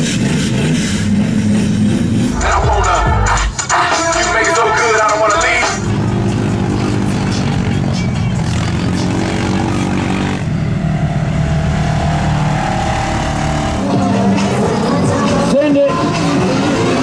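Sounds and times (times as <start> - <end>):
vehicle engine running: 0.0 - 17.0
background music: 2.3 - 17.0.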